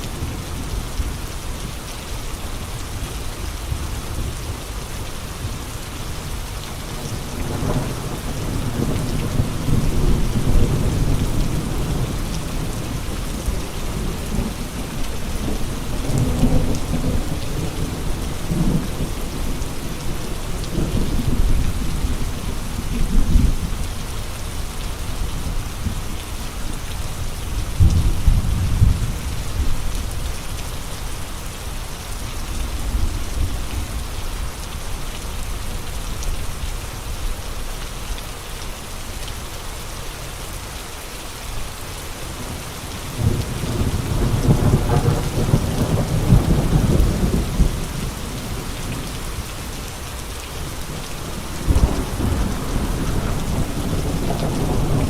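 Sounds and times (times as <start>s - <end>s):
rain: 0.0s - 55.0s.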